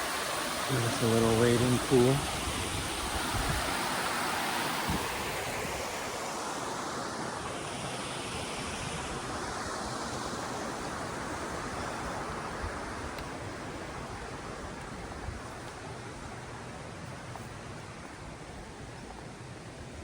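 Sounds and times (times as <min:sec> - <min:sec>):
stream water flowing: 0:00.0 - 0:20.0.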